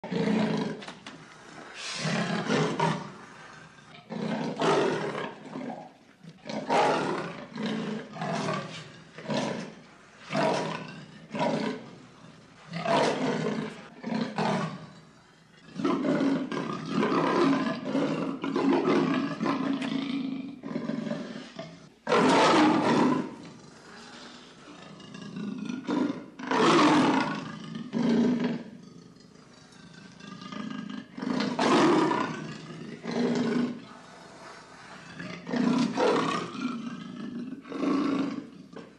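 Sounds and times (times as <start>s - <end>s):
leopard roaring: 0.0s - 38.9s.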